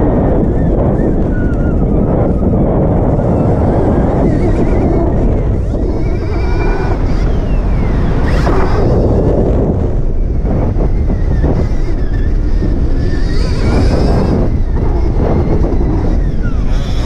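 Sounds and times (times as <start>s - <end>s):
electric motor whine: 0.0s - 17.0s
tyres rumbling on dirt: 0.0s - 17.0s
wind buffeting microphone: 0.0s - 17.0s.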